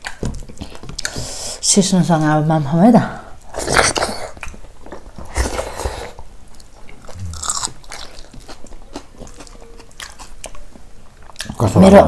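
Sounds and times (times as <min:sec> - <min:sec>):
people chewing and crunching food: 0:00.0 - 0:01.6, 0:03.4 - 0:12.0.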